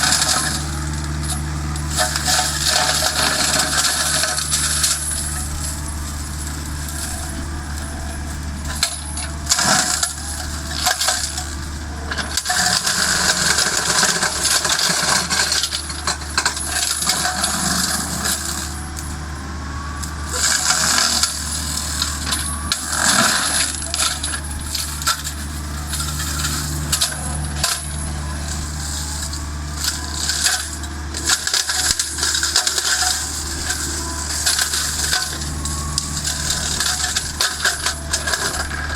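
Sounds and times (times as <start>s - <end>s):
machine drone: 0.0s - 38.9s
wood crackling and clattering: 0.0s - 38.9s.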